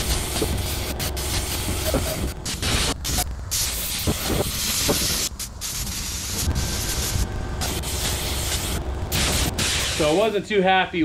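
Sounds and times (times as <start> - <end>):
paint spray gun hissing: 0.0 - 10.4
steady low rumble: 0.0 - 11.0.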